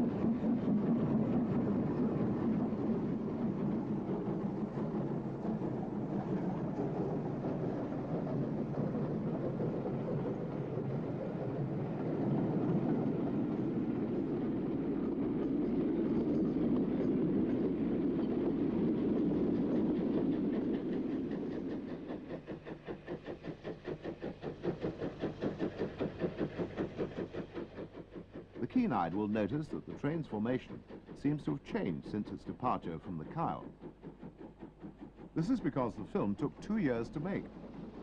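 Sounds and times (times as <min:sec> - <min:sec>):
steam locomotive exhaust beats: 0:00.0 - 0:38.0
train rumbling by: 0:00.0 - 0:38.0.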